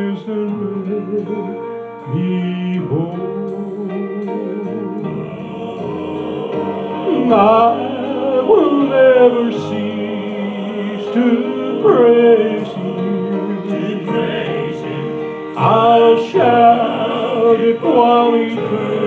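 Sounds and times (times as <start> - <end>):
man singing into a microphone: 0.0 - 5.2, 7.0 - 19.0
instrumental accompaniment: 0.0 - 19.0.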